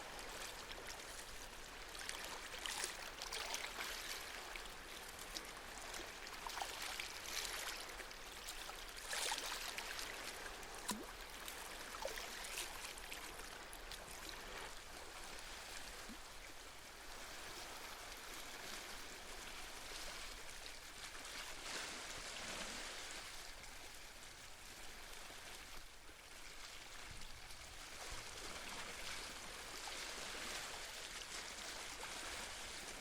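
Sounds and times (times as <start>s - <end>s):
sea waves lapping on shore: 0.0s - 33.0s.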